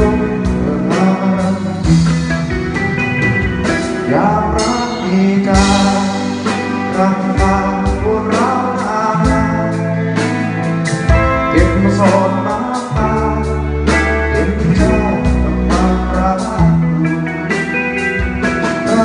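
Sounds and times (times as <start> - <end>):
bass notes: 0.0 - 19.0
guitar: 0.0 - 19.0
person singing: 0.0 - 19.0.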